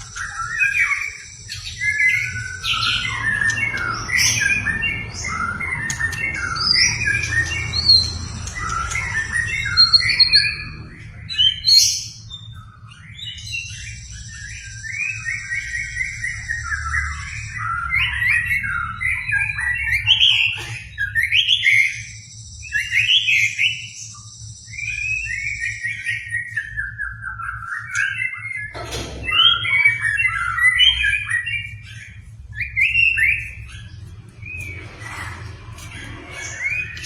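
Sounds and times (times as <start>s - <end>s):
songbird singing whistled phrases: 0.0s - 10.8s, 11.4s - 34.8s.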